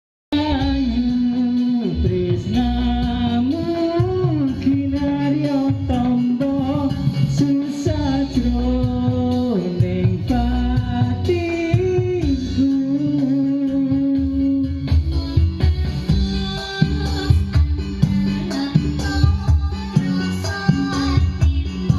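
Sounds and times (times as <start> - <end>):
instrumental music with guitar: 0.4 - 21.9.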